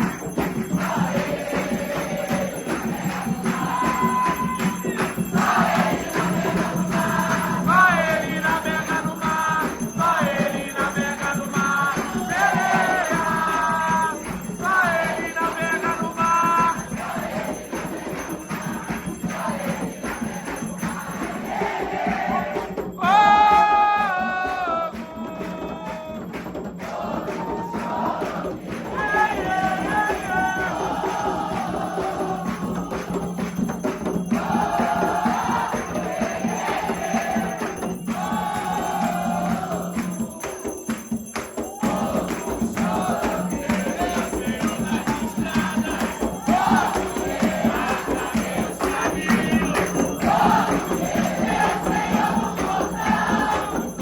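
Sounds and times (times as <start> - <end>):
jingling bells: 0.0 - 54.0
percussion strikes: 0.0 - 54.0
voices singing a chant: 0.0 - 54.0.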